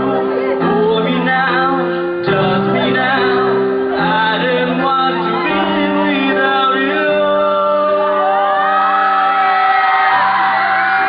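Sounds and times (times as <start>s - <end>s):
person singing love song: 0.0s - 11.0s.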